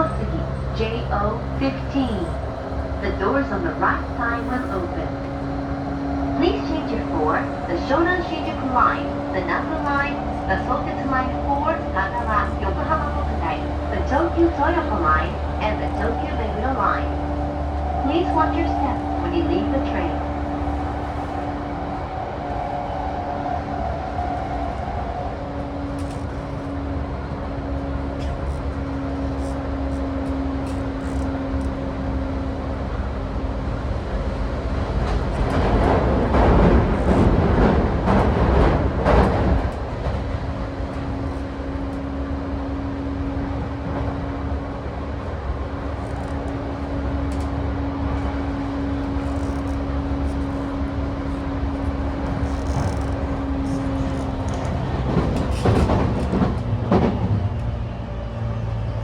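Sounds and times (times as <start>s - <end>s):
train motor humming: 0.0s - 59.0s
train wheels rumbling on rail: 0.0s - 59.0s.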